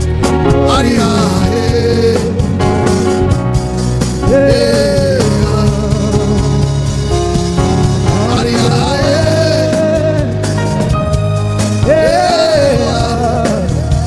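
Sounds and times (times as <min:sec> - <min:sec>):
church band music: 0:00.0 - 0:14.0.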